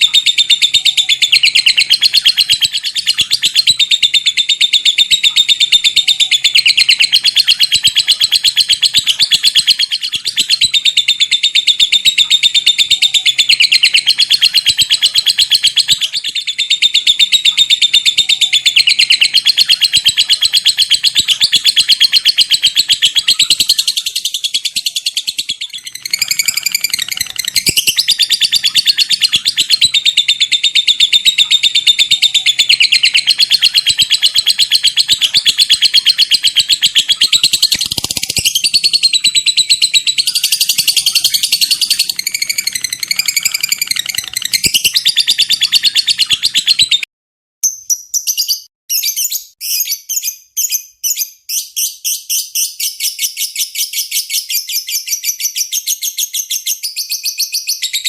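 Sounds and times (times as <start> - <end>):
lovebird chattering: 0.0 - 47.1.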